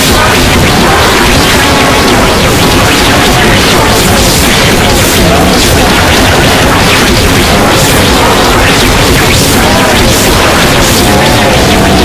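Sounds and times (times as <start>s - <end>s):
heavily distorted music: 0.0s - 12.0s.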